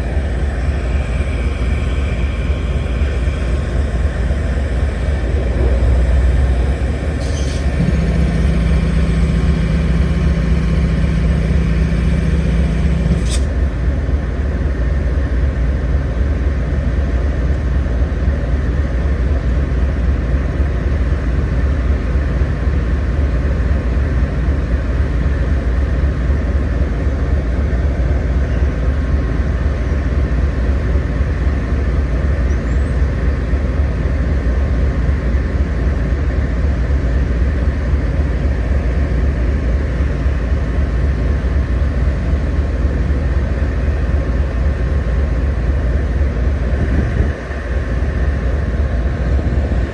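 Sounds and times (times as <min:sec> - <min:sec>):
faint steady whine: 0:00.0 - 0:49.9
locomotive engine rumble: 0:00.0 - 0:49.9.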